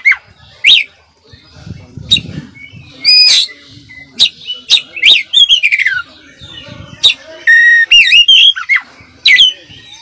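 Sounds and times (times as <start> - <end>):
bird song with whistled phrases: 0.0 - 10.0.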